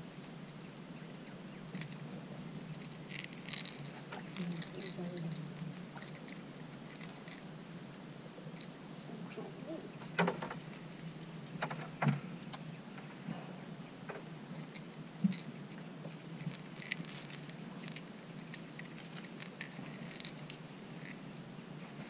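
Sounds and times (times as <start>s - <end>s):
steady high-pitched hum: 0.0s - 22.0s.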